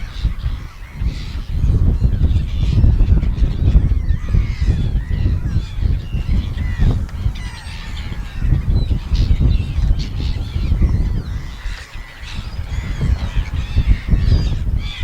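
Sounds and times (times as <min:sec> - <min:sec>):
seagulls calling: 0:00.0 - 0:15.0.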